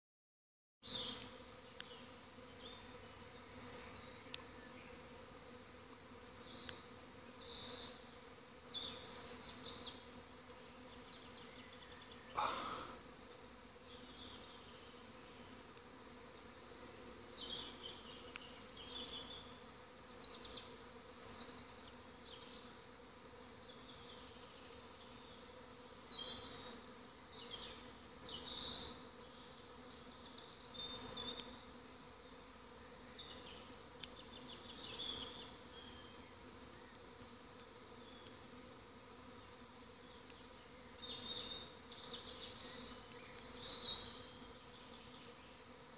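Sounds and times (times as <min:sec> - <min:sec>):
bee swarm humming: 0:00.8 - 0:45.9.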